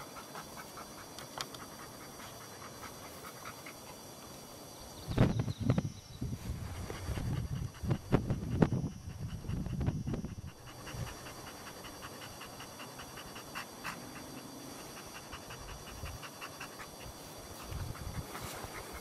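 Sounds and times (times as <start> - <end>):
dog panting: 0.0 - 4.4, 6.7 - 19.0.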